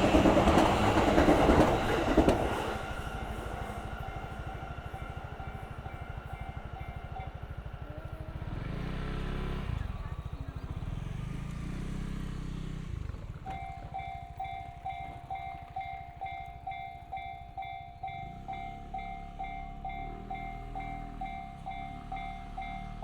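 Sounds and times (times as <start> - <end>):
crossing warning bell ringing: 0.0 - 10.3, 13.4 - 23.0
electric train rumbling past: 0.0 - 23.0.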